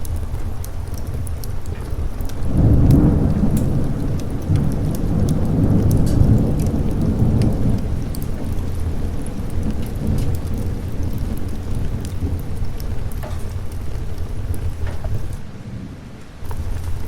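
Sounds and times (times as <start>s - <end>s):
sharp crackles: 0.0s - 15.4s, 16.4s - 17.0s
steady rain: 0.0s - 17.0s
thunder rumbling: 0.0s - 17.0s.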